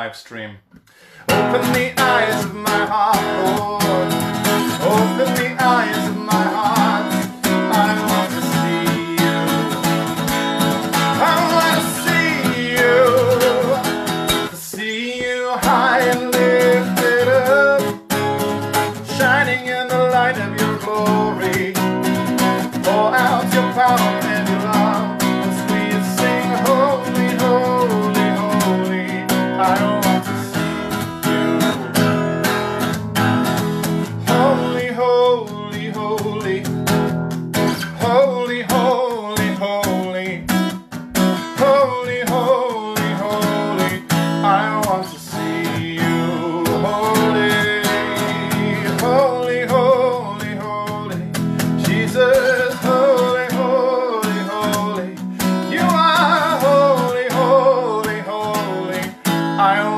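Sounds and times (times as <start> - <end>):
man singing: 0.0 - 32.6, 33.9 - 59.9
acoustic guitar strummed: 0.9 - 59.9.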